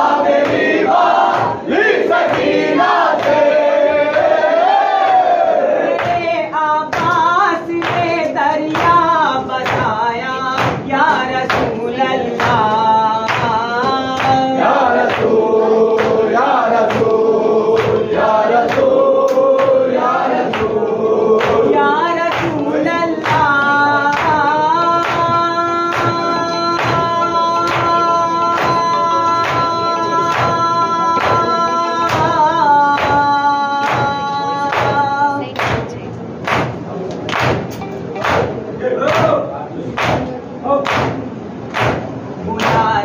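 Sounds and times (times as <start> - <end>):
men chanting a lament: 0.0 - 35.5, 38.2 - 43.0.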